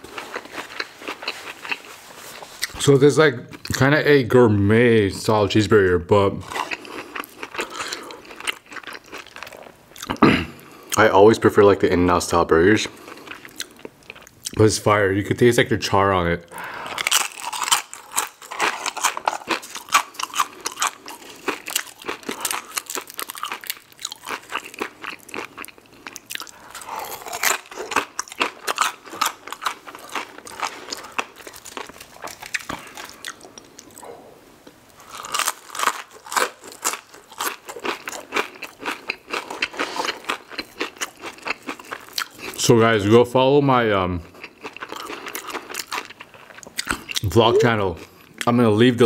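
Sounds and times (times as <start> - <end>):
chewing and crunching food: 0.0 - 2.9, 6.4 - 11.0, 12.8 - 14.7, 16.5 - 34.2, 35.0 - 42.7, 44.2 - 48.6.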